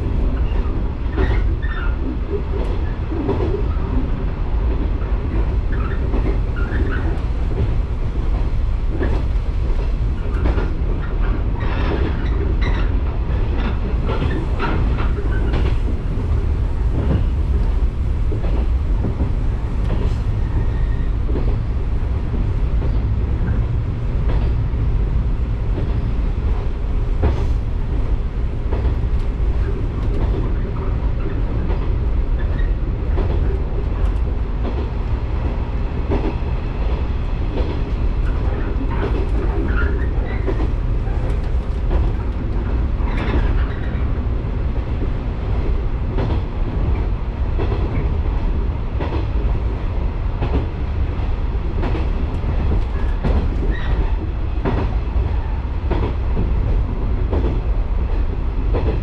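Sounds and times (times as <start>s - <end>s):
rail joint clicks: 0.0s - 59.0s
train wheels rumbling on rails: 0.0s - 59.0s.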